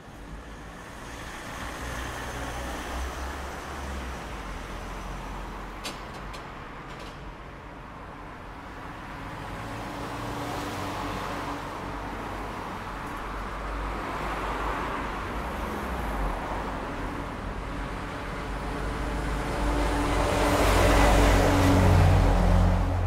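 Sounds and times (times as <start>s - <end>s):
cars passing on street: 0.0s - 23.0s.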